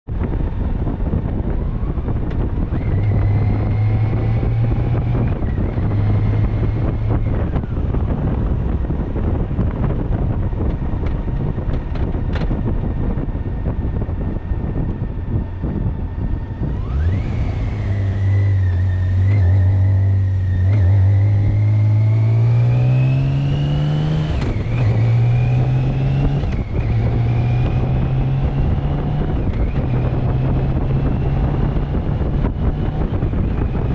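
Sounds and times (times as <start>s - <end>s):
motorcycle engine accelerating: 0.1s - 33.9s
wind blasting over microphone: 0.1s - 33.9s.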